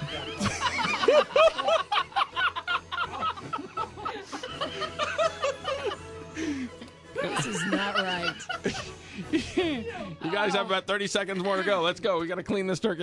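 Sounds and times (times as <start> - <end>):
people laughing: 0.0 - 11.8.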